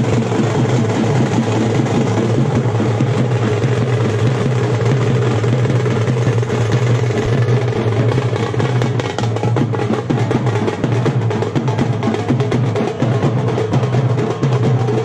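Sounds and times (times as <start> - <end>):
frame drums beaten fast: 0.0 - 15.0.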